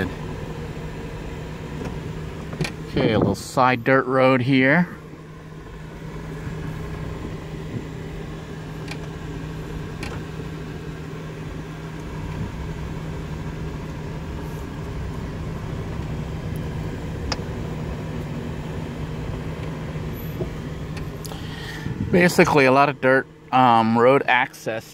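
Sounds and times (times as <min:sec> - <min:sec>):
tyre and road noise: 0:00.0 - 0:24.9
van engine hum: 0:00.0 - 0:24.9.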